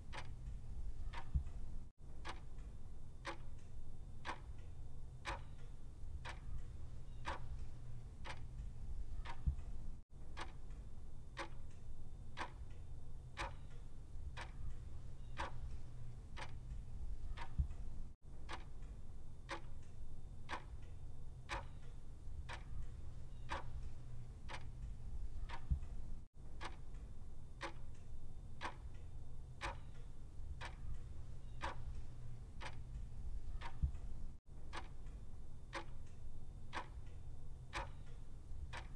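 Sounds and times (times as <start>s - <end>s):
clock ticking: 0.0s - 10.8s, 11.4s - 11.8s, 12.4s - 12.8s, 13.4s - 20.9s, 21.5s - 29.0s, 29.6s - 38.9s.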